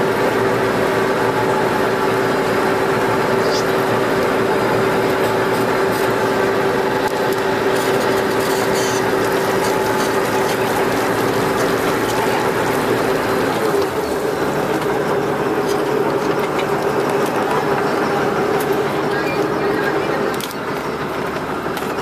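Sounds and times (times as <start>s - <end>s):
boat engine and winch hum: 0.0s - 22.0s.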